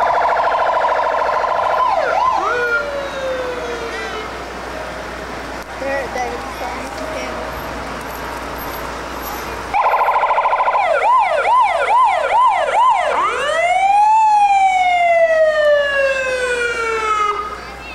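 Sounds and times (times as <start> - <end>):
emergency vehicle siren: 0.0 - 17.9.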